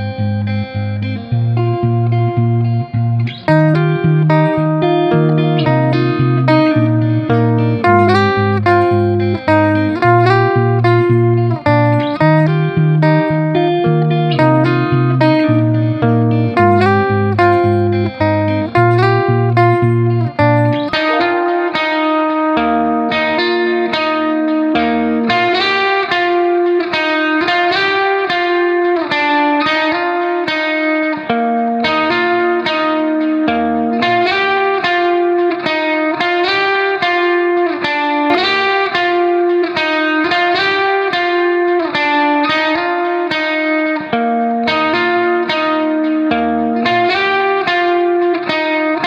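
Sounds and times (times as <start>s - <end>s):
plucked guitar melody: 0.0s - 49.0s.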